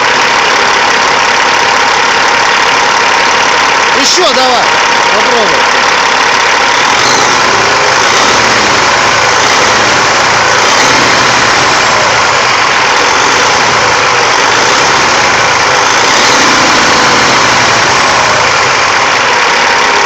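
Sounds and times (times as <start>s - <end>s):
diesel engine running loudly: 0.0s - 20.0s.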